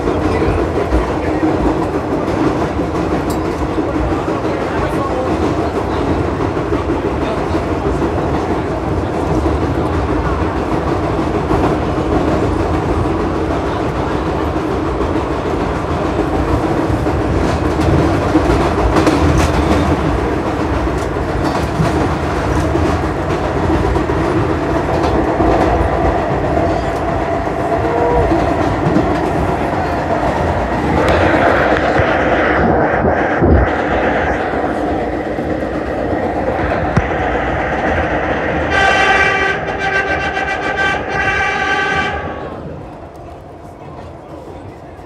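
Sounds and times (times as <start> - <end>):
rail clicks: 0.0 - 45.0
subway train rumbling: 0.0 - 45.0.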